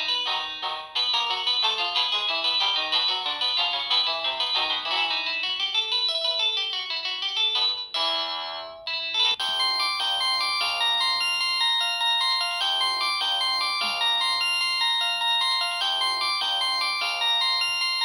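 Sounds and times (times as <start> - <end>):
polyphonic phone ringtone melodies: 0.0 - 18.0.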